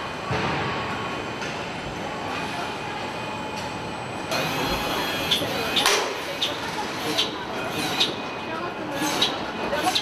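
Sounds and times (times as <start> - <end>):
factory machinery rumble and hiss: 0.0 - 10.0.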